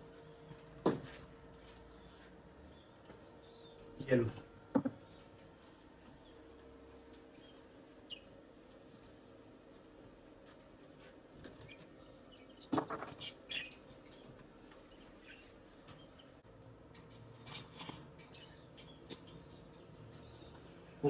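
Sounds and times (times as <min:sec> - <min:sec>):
small cage birds chirping: 0:00.0 - 0:21.0.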